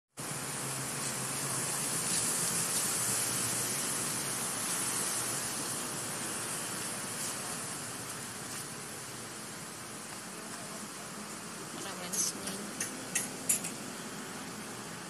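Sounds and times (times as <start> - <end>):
steady hiss: 0.2 - 15.0.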